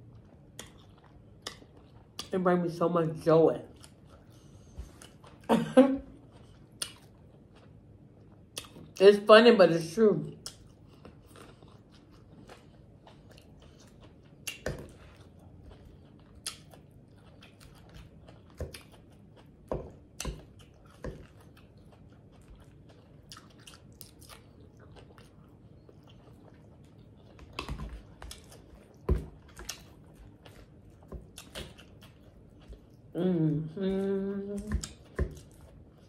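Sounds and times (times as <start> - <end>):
chewing and biting salad: 0.0 - 2.4, 3.1 - 9.0, 10.3 - 36.0.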